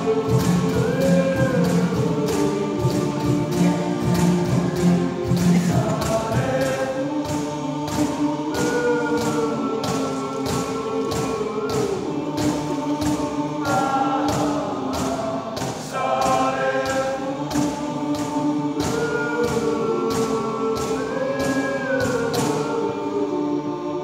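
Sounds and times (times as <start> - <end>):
steady percussive beat: 0.0 - 23.6
men's choir singing a cappella: 0.0 - 24.0.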